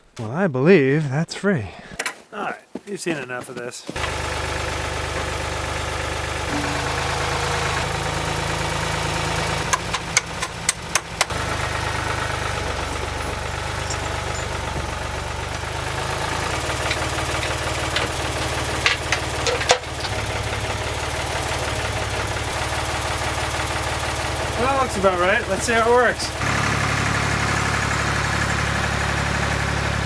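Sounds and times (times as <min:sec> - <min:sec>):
tractor engine idling: 0:03.9 - 0:30.0.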